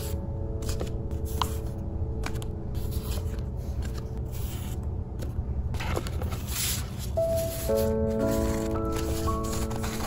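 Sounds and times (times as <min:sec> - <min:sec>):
paper sheets swishing and rustling: 0:00.0 - 0:10.0
steady low hum: 0:00.0 - 0:10.0.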